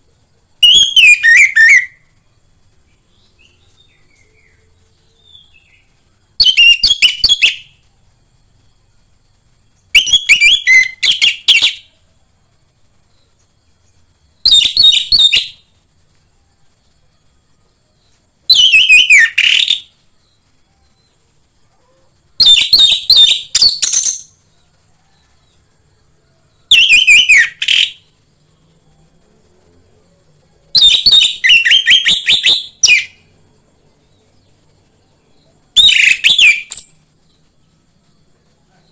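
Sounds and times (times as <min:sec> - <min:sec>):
thrush singing whistled notes: 0:00.0 - 0:12.1, 0:13.1 - 0:21.4, 0:22.4 - 0:38.9
faint high-pitched hiss: 0:00.0 - 0:38.9.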